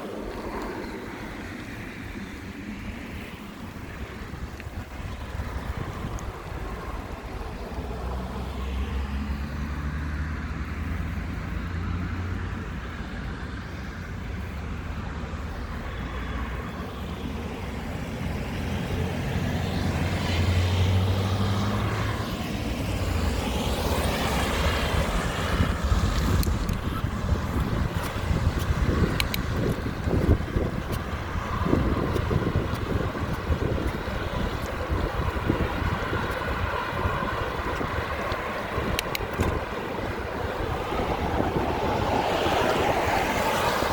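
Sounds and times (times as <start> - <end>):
wind on microphone: 0.0 - 9.6, 10.2 - 43.9
motor vehicle hum: 0.0 - 43.9.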